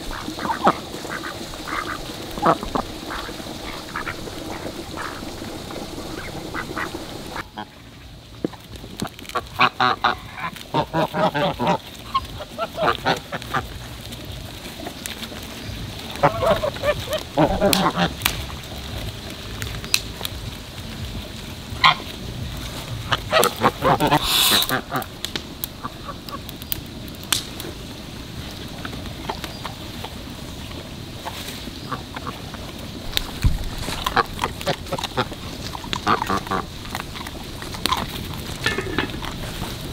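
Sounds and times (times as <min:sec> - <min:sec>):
geese honking: 0:00.0 - 0:26.6, 0:27.8 - 0:39.9.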